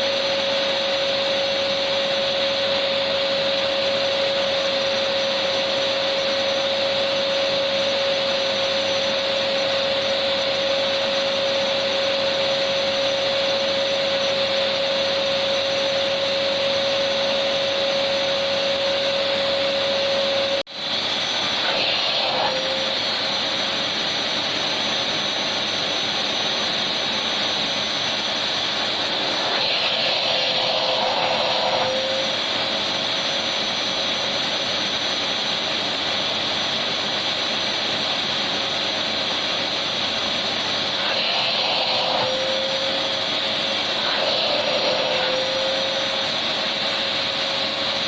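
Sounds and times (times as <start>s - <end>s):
vacuum cleaner running: 0.0s - 48.0s.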